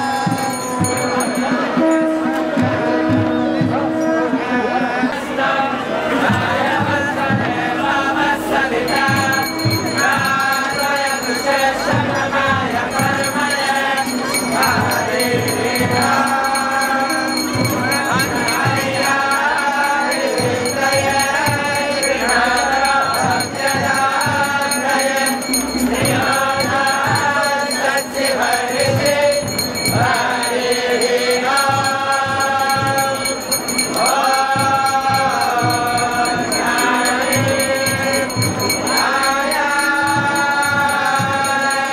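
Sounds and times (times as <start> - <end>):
jingling hand percussion: 0.0 - 5.4, 6.1 - 41.9
group chanting: 0.0 - 41.9
rhythmic drumming: 0.0 - 41.9.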